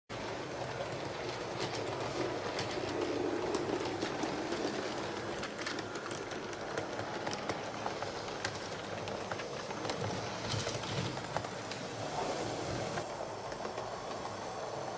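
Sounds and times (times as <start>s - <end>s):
model train running on track: 0.1s - 14.9s
wheels clicking over rail joints: 0.1s - 14.9s.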